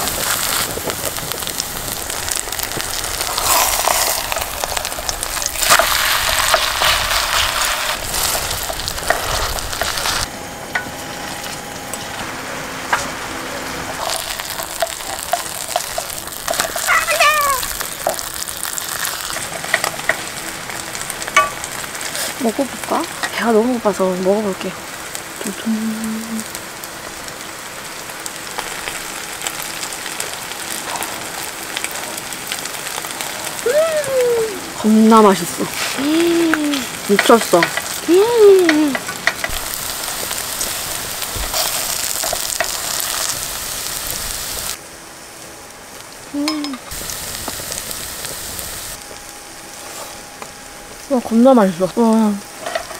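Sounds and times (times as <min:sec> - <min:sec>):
batter sizzling in hot oil: 0:00.0 - 0:52.9.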